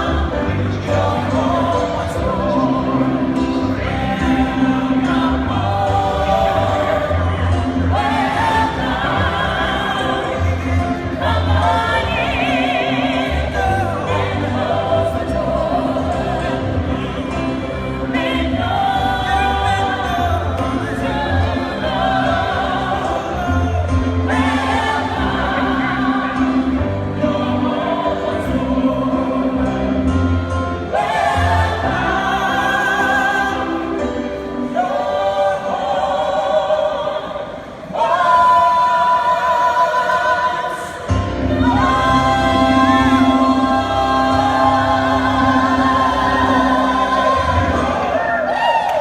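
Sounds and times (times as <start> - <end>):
steady bass accompaniment: 0.0 - 37.0, 41.0 - 48.7
choir singing: 0.0 - 49.0.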